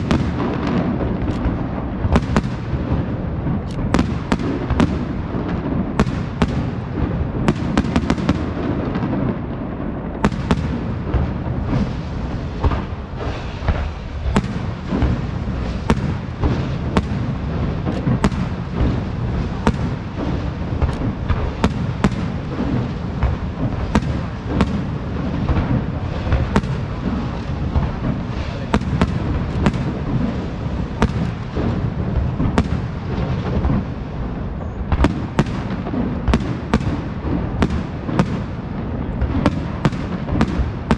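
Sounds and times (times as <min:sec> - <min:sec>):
rumble of fireworks shell bursts: 0:00.0 - 0:40.9
sharp fireworks bangs and cracks: 0:00.0 - 0:40.9.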